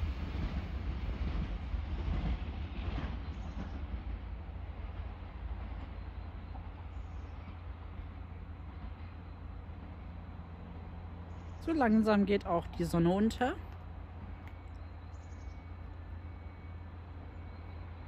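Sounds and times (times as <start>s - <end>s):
train rumbling and rattling: 0.0s - 18.0s.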